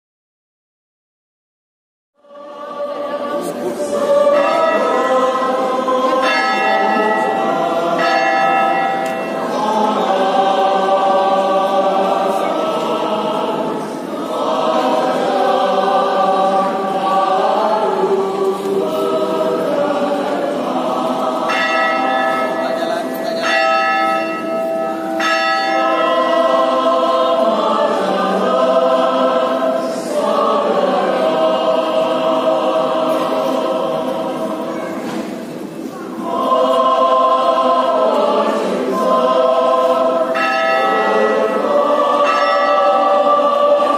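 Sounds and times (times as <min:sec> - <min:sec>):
choir singing a hymn: 0:02.2 - 0:43.9.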